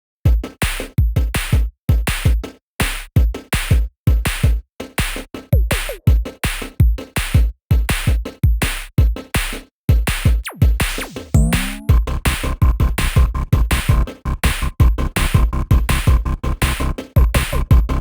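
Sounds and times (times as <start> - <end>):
electronic music with drum beat: 0.3 - 18.0.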